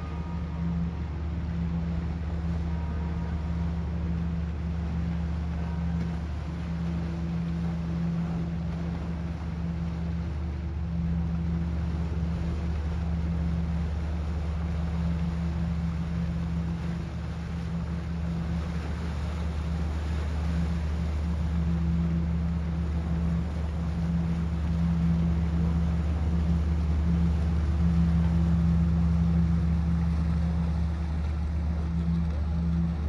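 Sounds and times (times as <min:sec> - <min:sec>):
constant hiss: 0:00.0 - 0:33.0
ferry engines droning: 0:00.0 - 0:33.0.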